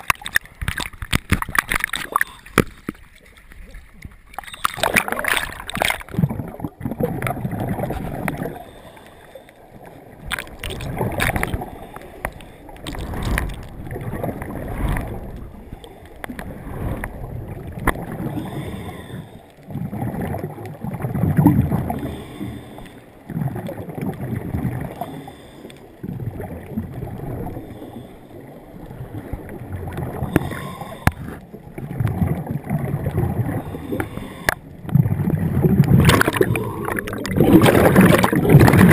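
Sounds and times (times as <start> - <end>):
underwater rushing and sloshing: 0.0 - 38.9.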